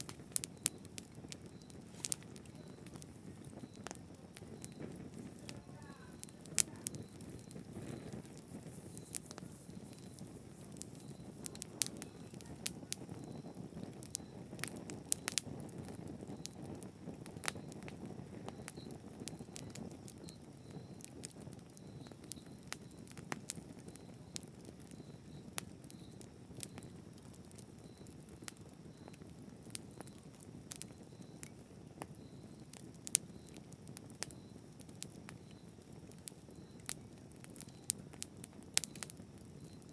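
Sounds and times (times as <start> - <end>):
rush of flames: 0.0 - 35.6
burning wood crackling and popping: 0.0 - 39.9.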